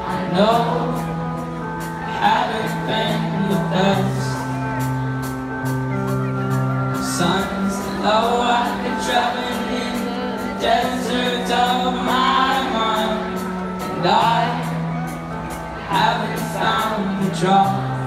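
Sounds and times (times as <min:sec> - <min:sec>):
person singing: 0:00.0 - 0:05.4, 0:06.8 - 0:18.0
keyboard chords: 0:00.0 - 0:18.0.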